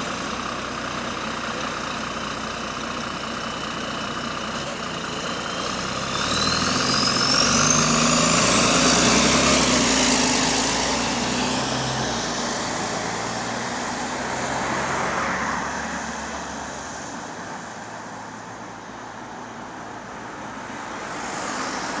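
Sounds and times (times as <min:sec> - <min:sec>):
bus engine pulling away: 0:00.0 - 0:22.0
traffic noise: 0:00.0 - 0:22.0.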